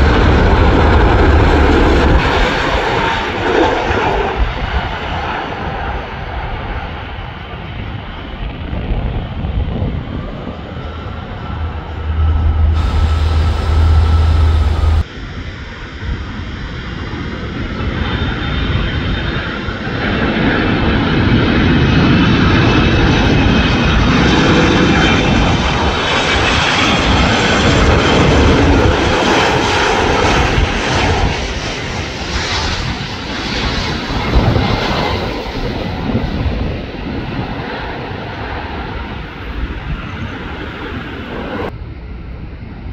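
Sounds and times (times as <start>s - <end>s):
jet engines on approach: 0.0s - 42.9s.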